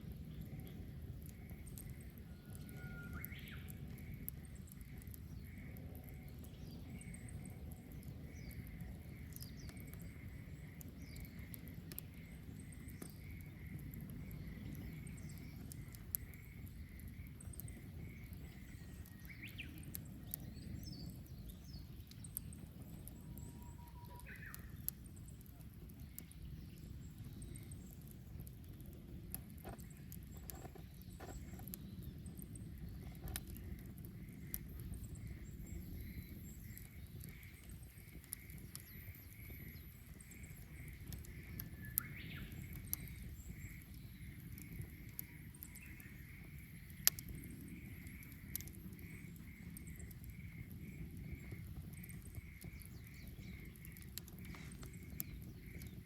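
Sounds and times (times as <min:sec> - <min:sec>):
bonfire crackling and popping: 0:00.0 - 0:56.0
low rumble of flames: 0:00.0 - 0:56.0.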